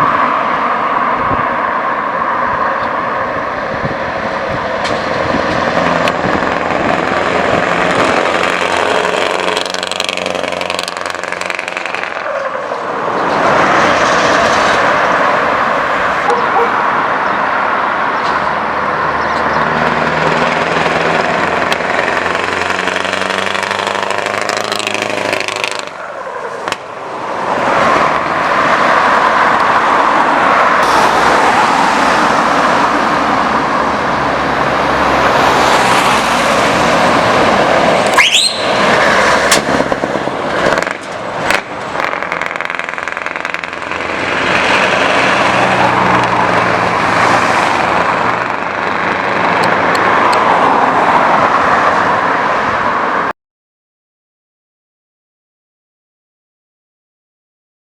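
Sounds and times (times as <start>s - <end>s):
truck engine pulling hard: 3.3s - 17.2s, 18.1s - 51.2s.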